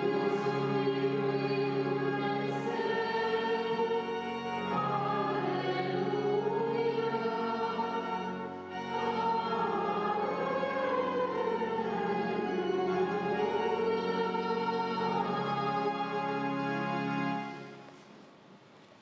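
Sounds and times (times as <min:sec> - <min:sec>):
choir singing sustained chords: 0:00.0 - 0:17.8.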